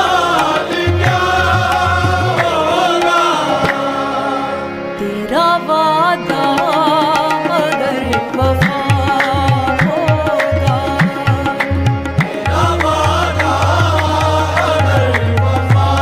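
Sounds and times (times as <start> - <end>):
instrumental song melody: 0.0 - 16.0.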